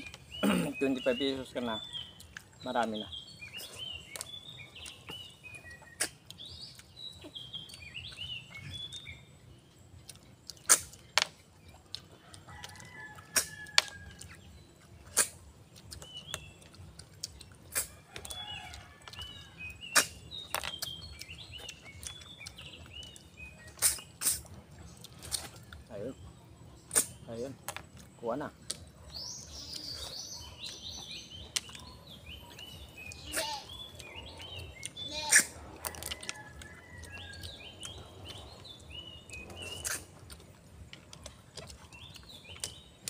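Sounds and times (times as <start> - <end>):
birds chirping: 0.0 - 43.0
snail shells clicking and sucking: 1.8 - 9.2, 9.9 - 25.9, 26.7 - 43.0.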